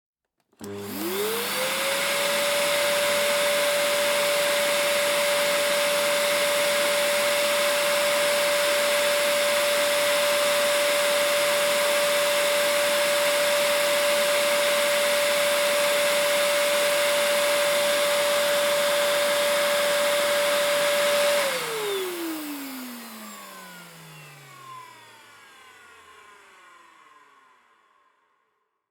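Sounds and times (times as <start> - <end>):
vacuum cleaner motor whine: 0.5 - 28.4.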